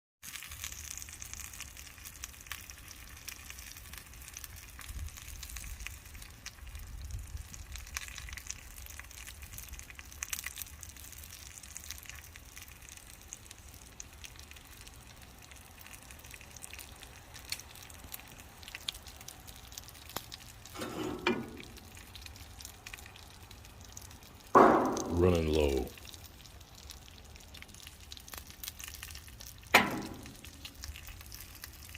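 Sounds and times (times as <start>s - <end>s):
bacon and eggs sizzling: 0.2s - 31.9s.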